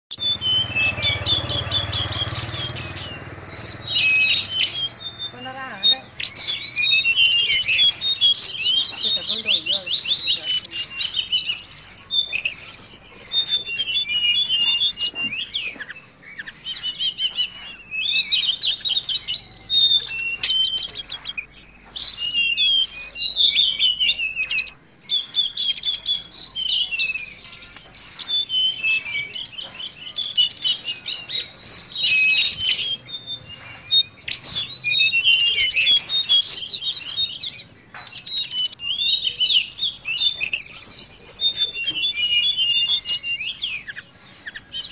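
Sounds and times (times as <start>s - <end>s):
bird twittering song: 0.1s - 44.9s.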